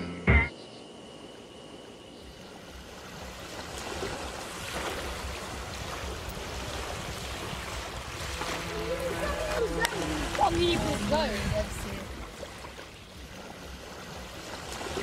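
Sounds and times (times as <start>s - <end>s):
wind buffeting microphone: 2.6s - 15.0s.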